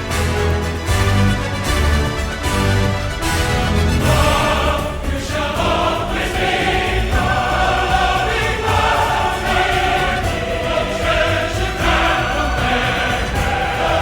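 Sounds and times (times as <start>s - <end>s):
choir singing sustained chords: 0.0s - 14.0s.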